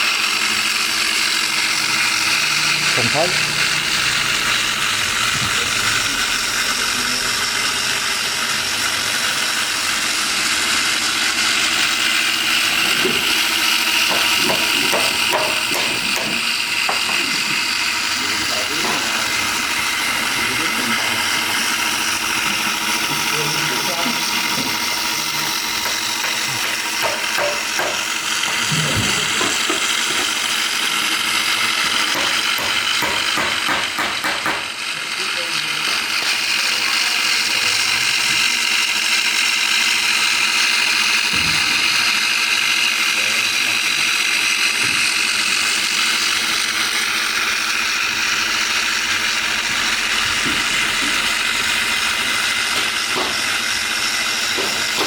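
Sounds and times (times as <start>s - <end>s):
angle grinder motor whining: 0.0s - 55.0s.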